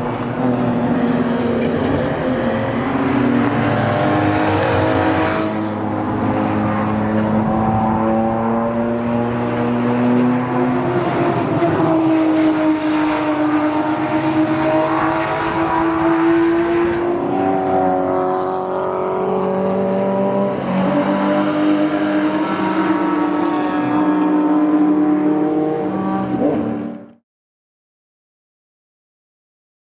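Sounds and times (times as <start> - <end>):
racing car engine revving: 0.0 - 27.2.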